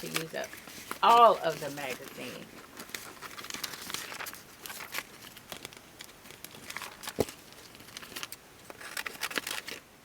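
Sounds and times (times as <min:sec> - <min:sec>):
paper rustling and crinkling: 0:00.0 - 0:09.9.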